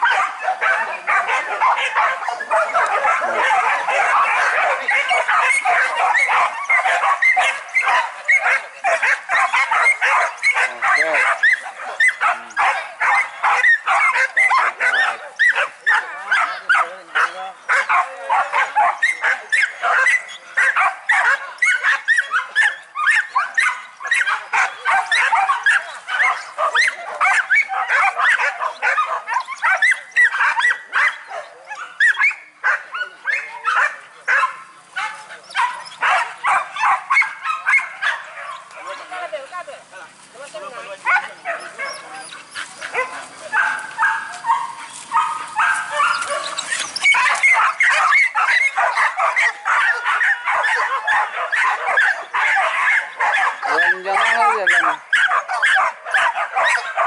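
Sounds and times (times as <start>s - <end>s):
dogs barking and yelping: 0.0s - 57.0s.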